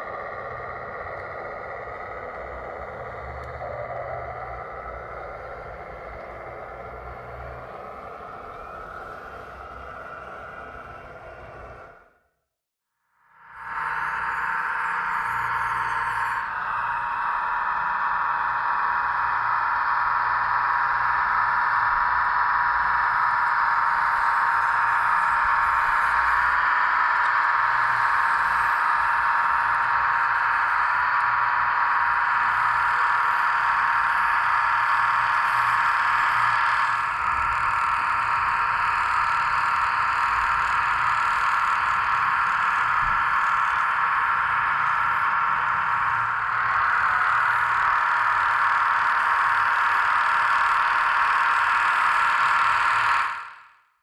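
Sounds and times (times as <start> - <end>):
small electric motor whirring: 0.0 - 12.1, 13.4 - 53.8.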